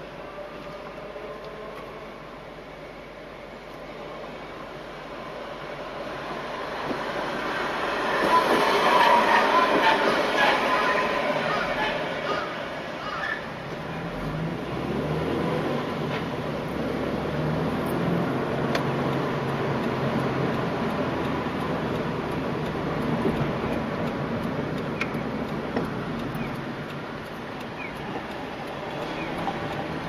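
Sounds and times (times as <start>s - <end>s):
car engine and tyre noise: 0.0s - 30.0s.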